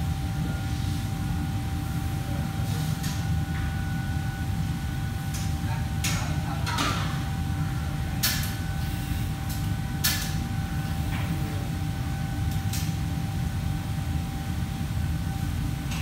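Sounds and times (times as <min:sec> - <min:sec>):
faint steady whine: 0:00.0 - 0:16.0
low machinery hum: 0:00.0 - 0:16.0.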